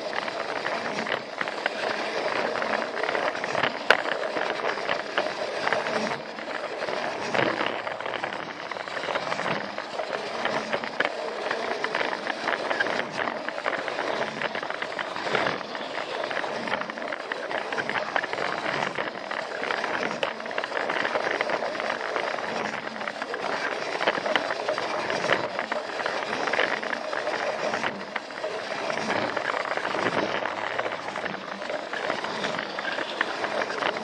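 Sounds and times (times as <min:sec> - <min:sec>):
toy train motor whirring: 0:00.0 - 0:34.0
wheels rattling and clicking on track: 0:00.0 - 0:34.0.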